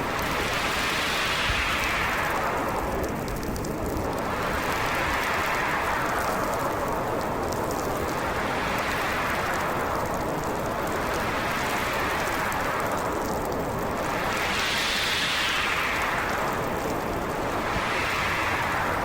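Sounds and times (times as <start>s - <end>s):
snowstorm wind gusting: 0.0s - 19.0s.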